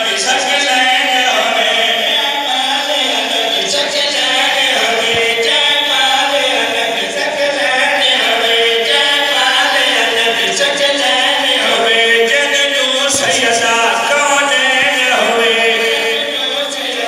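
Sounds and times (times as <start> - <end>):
men chanting unaccompanied: 0.0 - 17.0.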